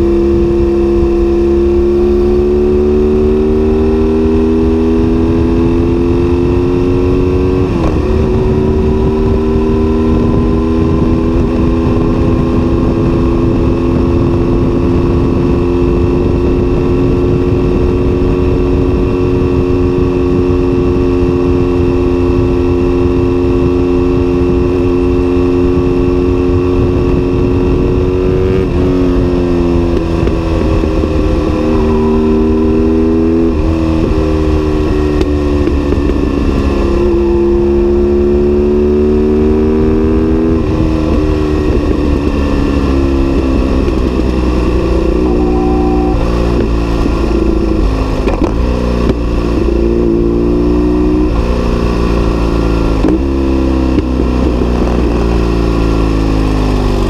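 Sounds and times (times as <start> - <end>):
motorcycle engine cruising: 0.0 - 57.0
wind noise: 0.0 - 57.0.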